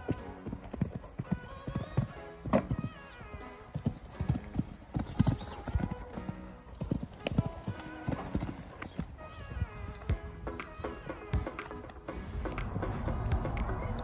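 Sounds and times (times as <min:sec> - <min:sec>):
background music: 0:00.0 - 0:14.0
hooves thudding on gravel: 0:00.0 - 0:14.0.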